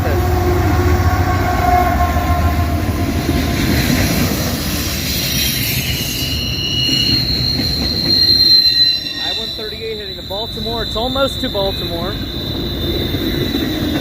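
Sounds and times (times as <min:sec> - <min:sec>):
high wheel squeal: 0:00.0 - 0:14.0
train wheels rumbling on rail: 0:00.0 - 0:14.0.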